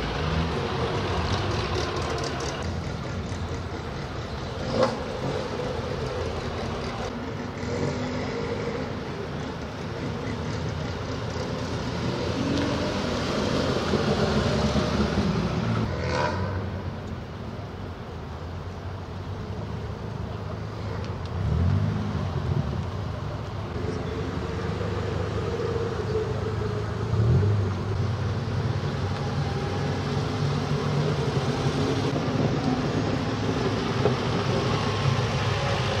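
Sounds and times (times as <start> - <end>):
cars driving past: 0.0 - 18.0, 18.6 - 36.0.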